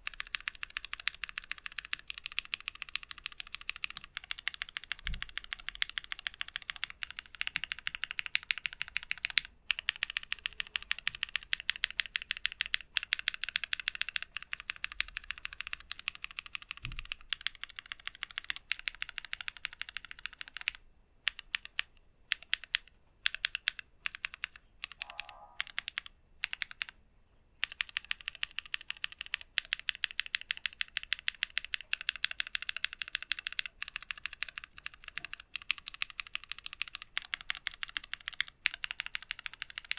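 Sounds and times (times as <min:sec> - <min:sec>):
fast mechanical keyboard typing: 0:00.0 - 0:27.0, 0:27.6 - 0:39.9.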